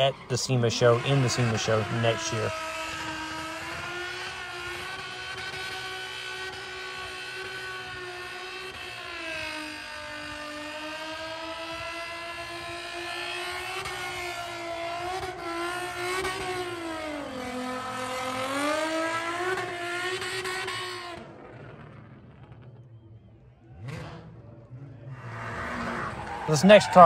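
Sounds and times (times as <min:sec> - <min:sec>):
car engine at high revs: 0:00.0 - 0:27.0.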